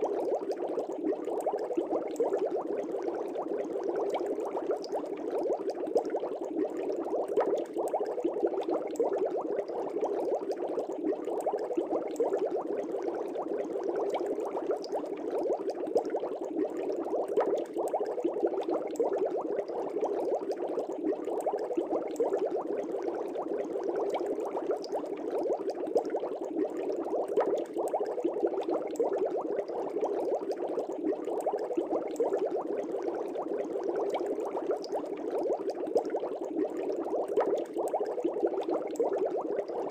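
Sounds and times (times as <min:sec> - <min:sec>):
fish tank air bubbles: 0:00.0 - 0:39.9.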